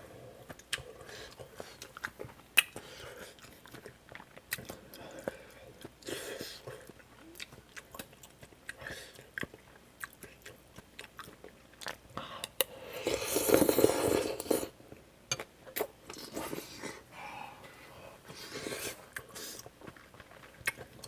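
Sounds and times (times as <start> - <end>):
person chewing wetly: 0.4 - 14.7, 18.2 - 21.0.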